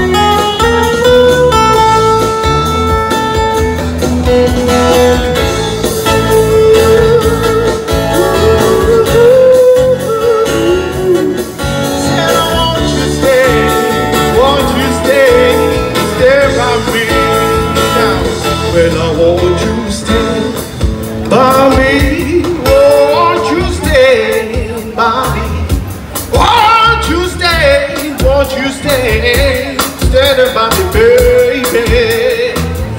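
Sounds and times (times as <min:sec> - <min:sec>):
acoustic guitar: 0:00.0 - 0:32.9
man singing into a microphone: 0:05.4 - 0:32.9.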